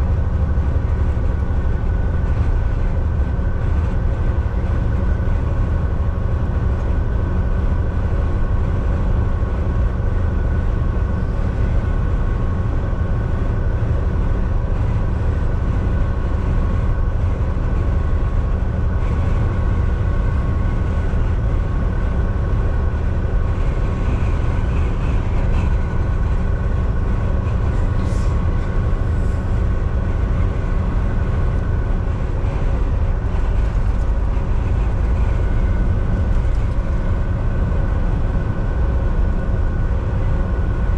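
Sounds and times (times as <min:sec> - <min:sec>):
faint constant whine: 0:00.0 - 0:40.9
truck engine and road rumble: 0:00.0 - 0:40.9.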